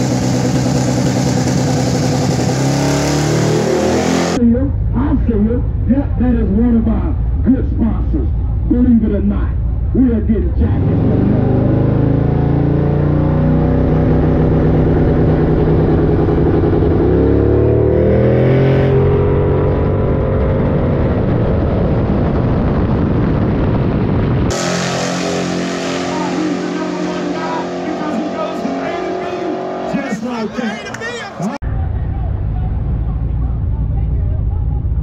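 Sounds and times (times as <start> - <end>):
distant car engine: 0.0 - 35.0
loud car engine running: 0.0 - 35.0.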